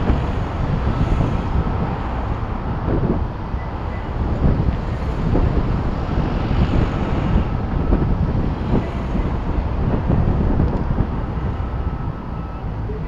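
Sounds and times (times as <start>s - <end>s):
road noise rumble: 0.0s - 13.0s
wind buffeting microphone: 0.0s - 13.0s.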